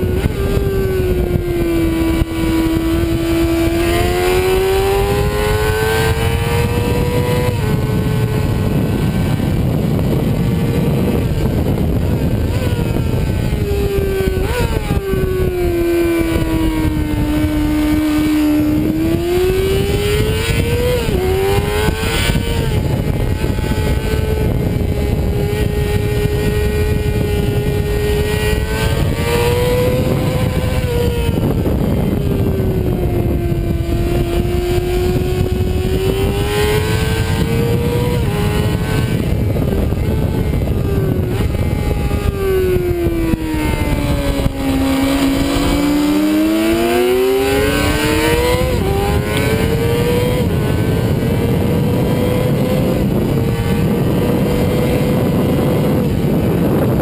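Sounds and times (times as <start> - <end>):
motorcycle engine revving: 0.0 - 57.0
wind rushing: 0.0 - 57.0.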